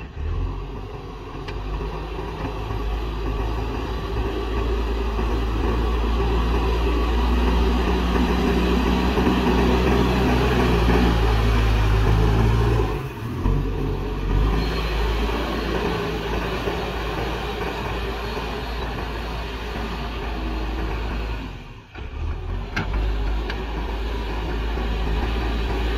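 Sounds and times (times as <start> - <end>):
diesel engine running under load: 0.0 - 25.9.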